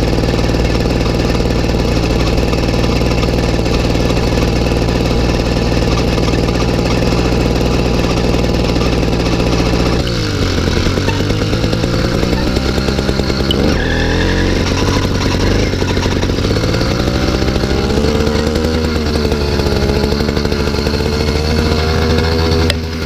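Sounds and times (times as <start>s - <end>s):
two-stroke engine revving: 0.0s - 23.0s.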